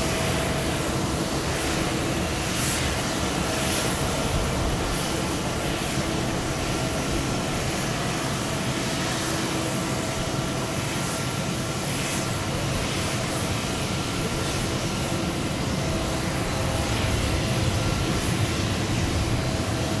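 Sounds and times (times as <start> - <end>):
airliner jet engines at takeoff: 0.0 - 20.0.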